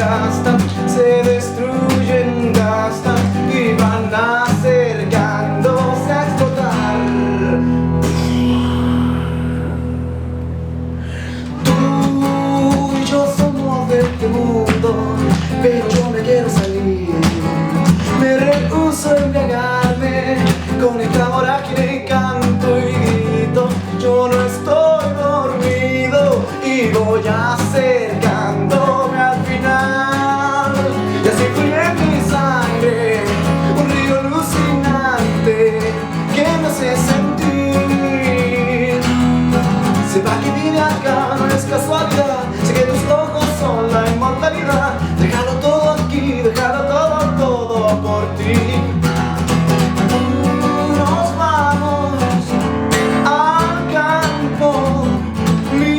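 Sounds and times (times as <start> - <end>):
acoustic guitar strummed chords: 0.0 - 55.9
wordless melody line: 0.0 - 55.9.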